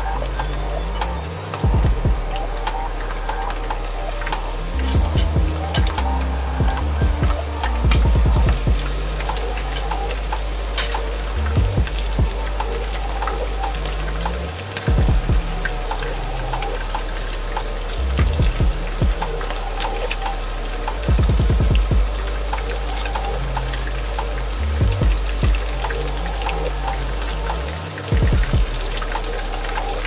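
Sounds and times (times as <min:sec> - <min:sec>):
background music with bass line: 0:00.0 - 0:30.0.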